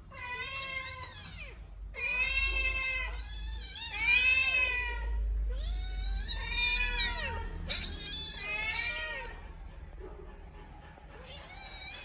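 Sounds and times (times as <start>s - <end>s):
kittens meowing: 0.1s - 9.4s, 11.2s - 12.0s.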